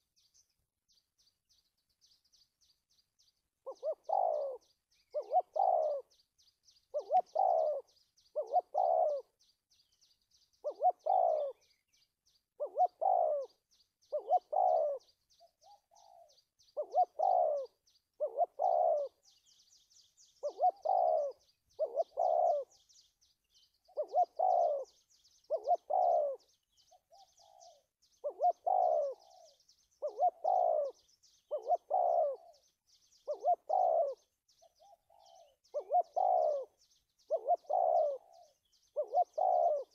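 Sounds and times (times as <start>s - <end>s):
dove cooing: 3.6s - 6.3s, 6.9s - 9.5s, 10.6s - 11.9s, 12.6s - 23.1s, 23.8s - 39.9s.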